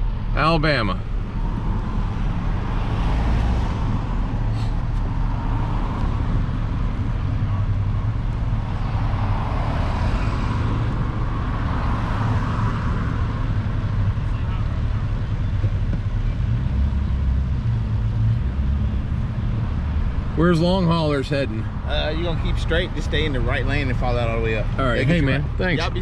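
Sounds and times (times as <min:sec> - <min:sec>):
car engine running: 0:00.0 - 0:26.0
road and traffic noise: 0:00.0 - 0:26.0.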